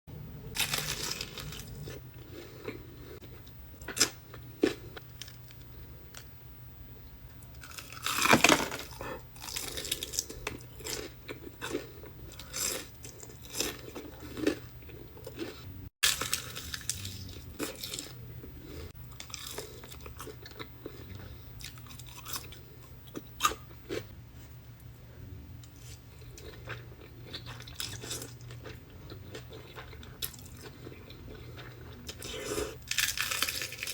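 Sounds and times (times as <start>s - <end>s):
crunching fried chicken: 0.5s - 6.3s, 7.5s - 24.1s, 25.8s - 33.9s.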